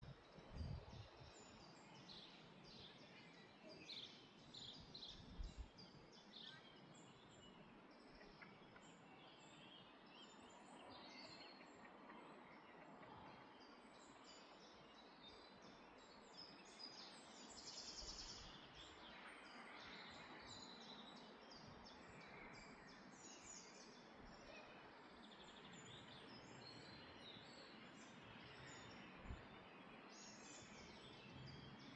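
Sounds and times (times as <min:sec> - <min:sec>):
faint birds chirping: 0:00.0 - 0:31.9.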